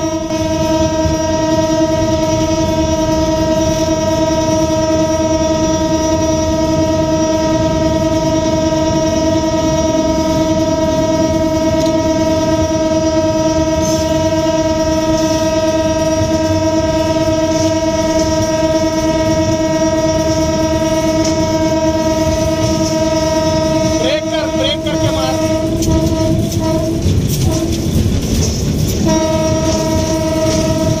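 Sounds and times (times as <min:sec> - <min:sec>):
locomotive horn long blast: 0:00.0 - 0:31.0
train engine and wheels rumble: 0:00.0 - 0:31.0.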